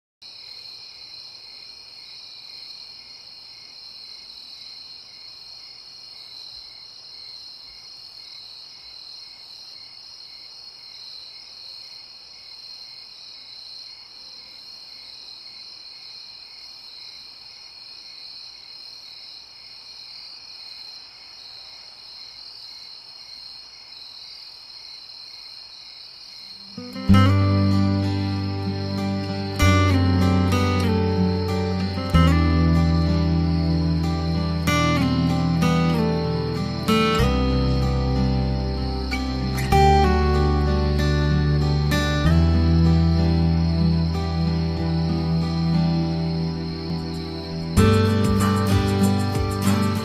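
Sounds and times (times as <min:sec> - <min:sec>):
crickets trilling: 0:00.2 - 0:50.0
faint repeating insect chirp: 0:00.2 - 0:50.0.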